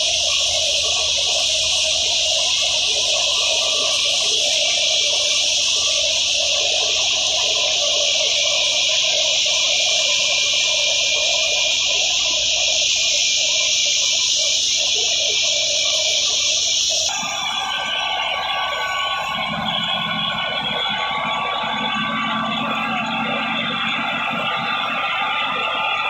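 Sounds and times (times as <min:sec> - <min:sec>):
fluctuating low machine noise: 0:00.0 - 0:26.0.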